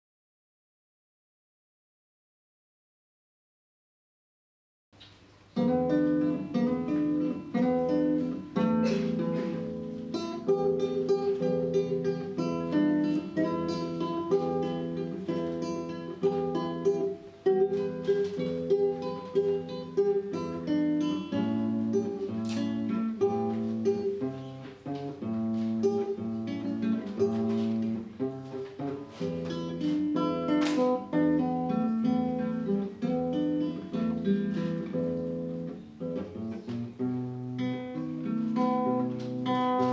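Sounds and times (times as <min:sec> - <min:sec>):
classical guitar: 0:05.0 - 0:39.9.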